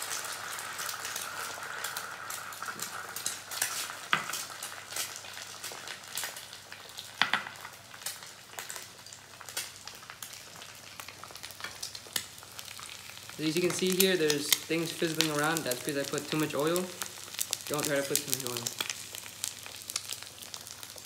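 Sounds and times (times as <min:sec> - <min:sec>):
eggs sizzling in oil: 0:00.0 - 0:21.0.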